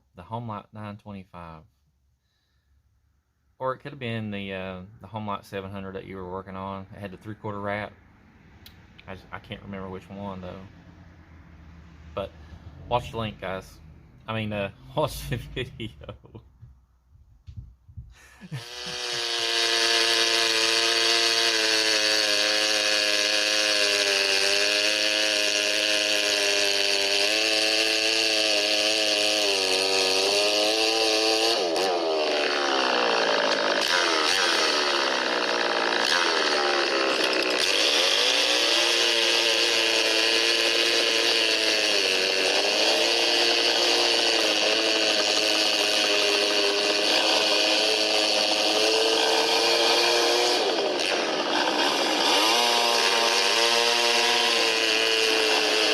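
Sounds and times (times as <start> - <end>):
chainsaw running at high revs: 4.1 - 16.2, 18.2 - 55.9.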